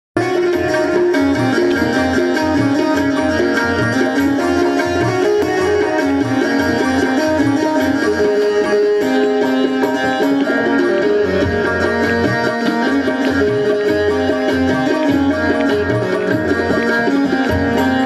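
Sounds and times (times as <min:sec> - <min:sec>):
sitar melody: 0:00.2 - 0:18.0
tabla rhythm: 0:00.2 - 0:18.0.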